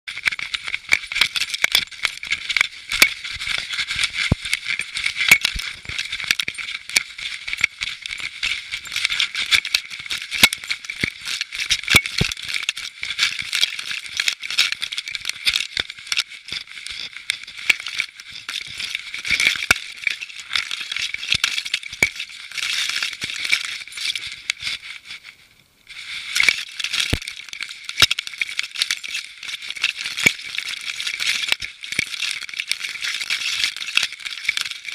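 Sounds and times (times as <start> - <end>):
collar camera rattling and rubbing: 0.1 - 25.4, 26.0 - 34.9.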